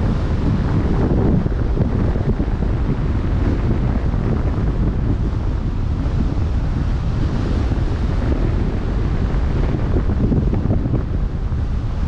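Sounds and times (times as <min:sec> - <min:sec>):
open sea waves washing: 0:00.0 - 0:12.0
wind buffeting microphone: 0:00.0 - 0:12.0.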